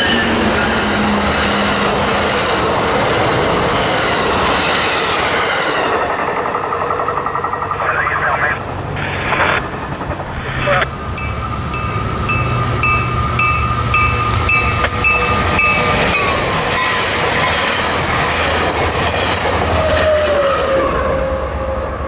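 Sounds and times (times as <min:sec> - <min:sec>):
train cars clattering over rails: 0:00.0 - 0:07.8, 0:10.8 - 0:22.0
diesel locomotive low hum: 0:00.0 - 0:22.0.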